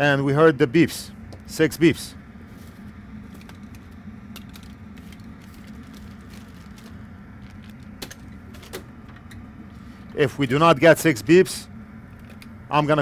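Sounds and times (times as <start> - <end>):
low hum of workshop room: 0.0 - 13.0.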